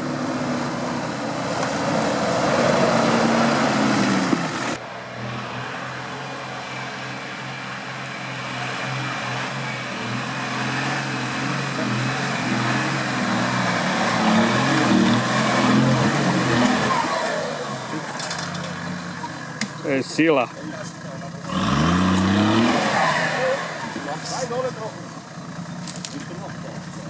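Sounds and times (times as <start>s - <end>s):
vehicle engine running under load: 0.0s - 27.0s.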